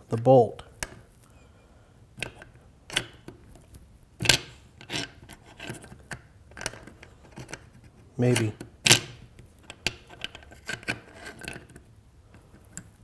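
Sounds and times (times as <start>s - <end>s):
metallic clicks and scrapes: 2.2s - 13.0s.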